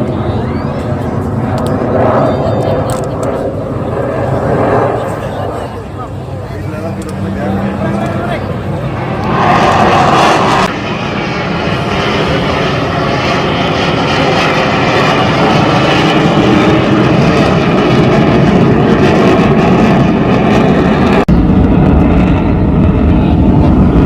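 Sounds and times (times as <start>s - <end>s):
heavy low rumble: 0.0s - 24.0s
military aircraft flying over: 0.0s - 24.0s.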